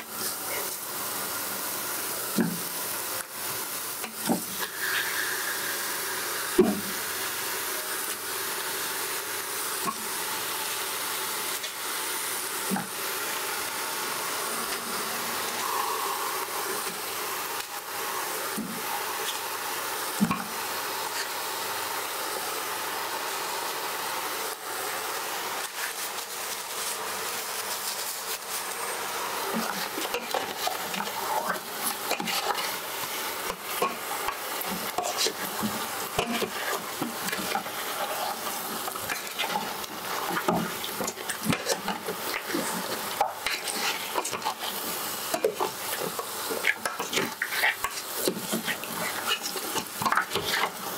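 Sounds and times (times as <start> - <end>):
meat sizzling in oil: 0.0 - 50.9.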